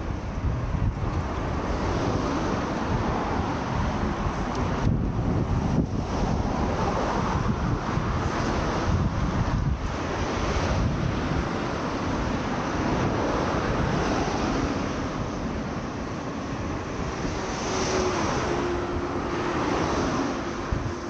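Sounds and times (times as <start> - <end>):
steady rushing noise: 0.0 - 21.0
wind buffeting microphone: 0.0 - 21.0.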